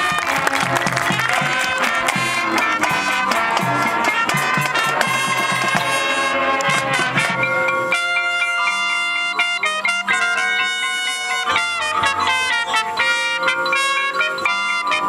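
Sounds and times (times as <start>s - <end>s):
marching band playing: 0.0s - 15.0s
percussion strikes: 0.0s - 15.0s.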